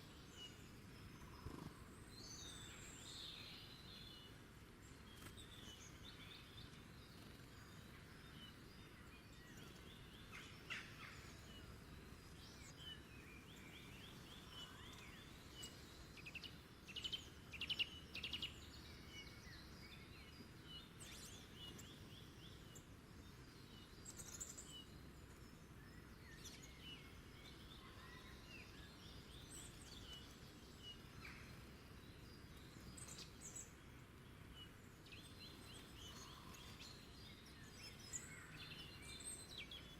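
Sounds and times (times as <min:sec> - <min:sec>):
low background hiss: 0:00.0 - 0:39.9
wild birds singing and calling: 0:00.0 - 0:39.9.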